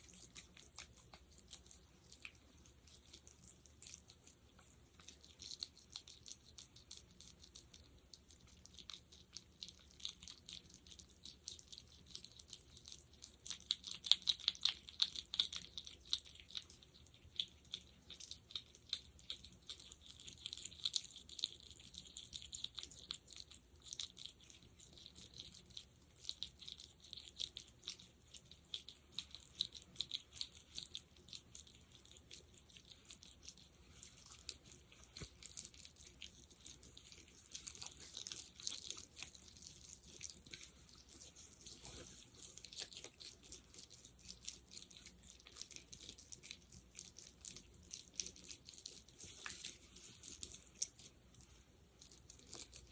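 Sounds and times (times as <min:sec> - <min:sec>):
fingers squishing sticky gel: 0:00.0 - 0:52.9.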